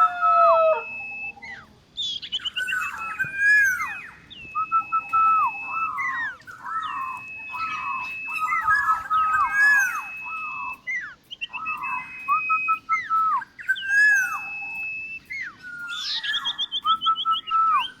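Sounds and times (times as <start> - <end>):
birds whistling: 0.0 - 18.0.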